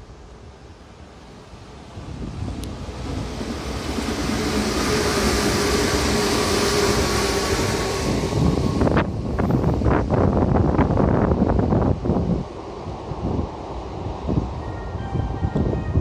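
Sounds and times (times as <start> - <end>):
train wheels on rail: 0.2 - 16.0.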